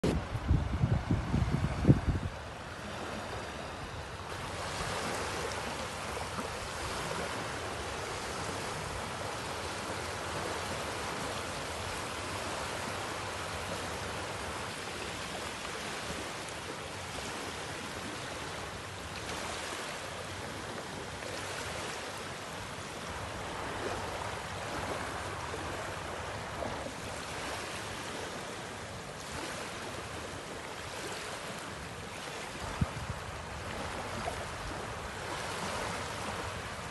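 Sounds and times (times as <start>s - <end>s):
small waves washing over sand: 0.0s - 36.9s.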